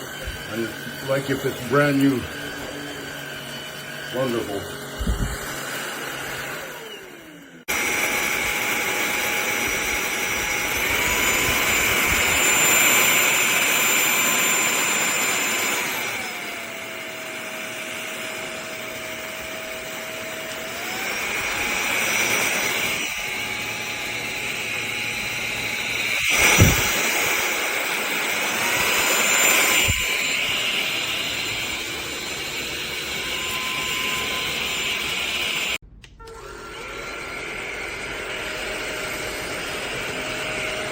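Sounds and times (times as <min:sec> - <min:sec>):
vacuum motor whine: 0:00.0 - 0:40.9.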